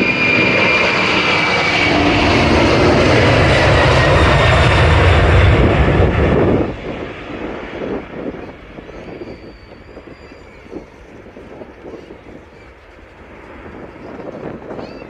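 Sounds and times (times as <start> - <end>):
jet engines at takeoff thrust: 0.0 - 15.0
wind buffeting microphone: 0.0 - 15.0.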